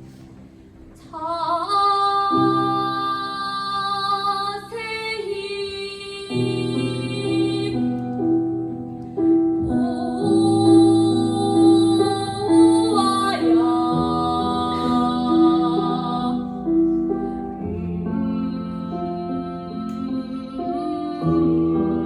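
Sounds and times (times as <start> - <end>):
woman singing with wavering pitch: 1.1 - 8.0, 9.6 - 22.0.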